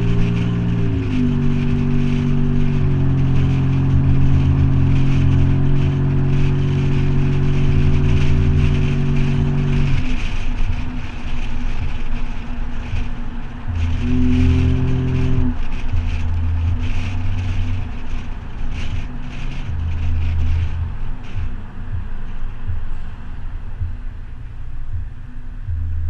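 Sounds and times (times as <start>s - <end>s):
engine exhaust drone: 0.0s - 26.0s.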